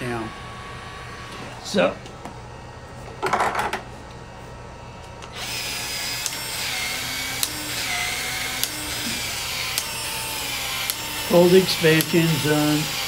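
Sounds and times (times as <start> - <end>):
pipe expansion tool running: 0.0 - 3.8, 5.2 - 13.0.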